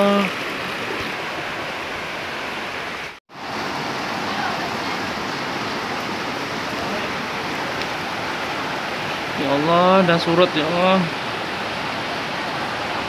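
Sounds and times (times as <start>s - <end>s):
flowing floodwater: 0.0s - 13.0s
rain: 0.0s - 13.0s.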